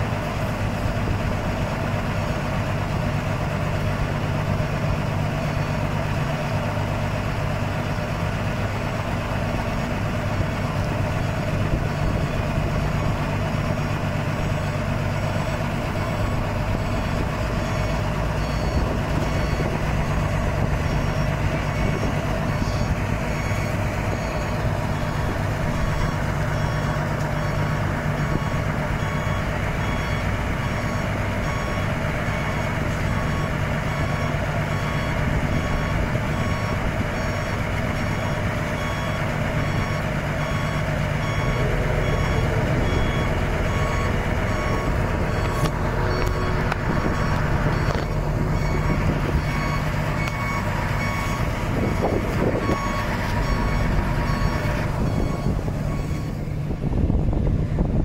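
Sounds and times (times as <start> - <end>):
diesel engine running: 0.0 - 58.0
reversing alarm beeping: 0.4 - 57.2.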